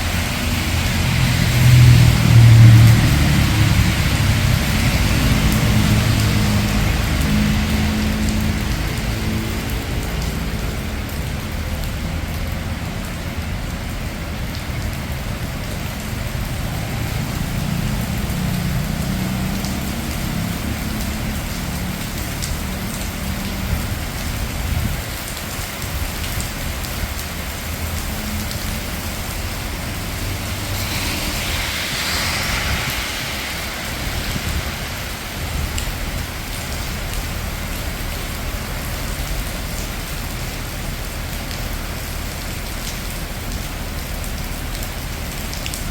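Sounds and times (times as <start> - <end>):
rain falling: 0.0 - 45.9
rumble of passing vehicles: 0.0 - 45.9
tyres hissing on wet road: 0.0 - 45.9.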